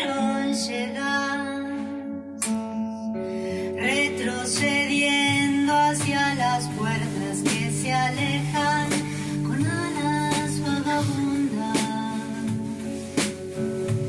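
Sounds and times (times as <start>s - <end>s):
woman singing: 0.0s - 13.2s
acoustic guitar chords: 0.0s - 14.0s.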